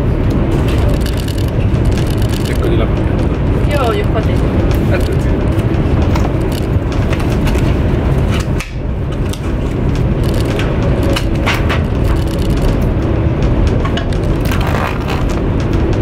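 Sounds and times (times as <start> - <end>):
train cabin rumble: 0.0 - 16.0.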